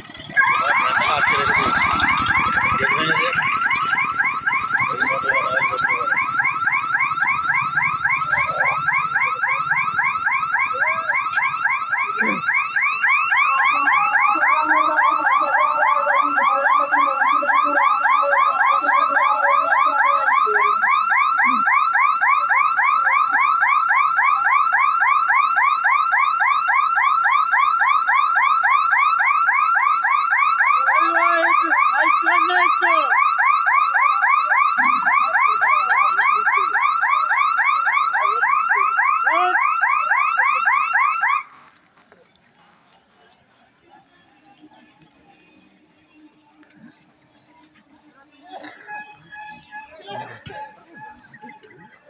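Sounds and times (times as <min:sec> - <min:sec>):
level crossing warning siren: 0:00.0 - 0:41.7.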